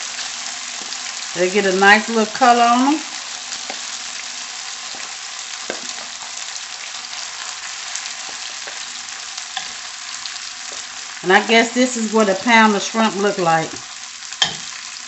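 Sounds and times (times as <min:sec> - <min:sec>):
shrimp sizzling in oil: 0:00.0 - 0:15.0.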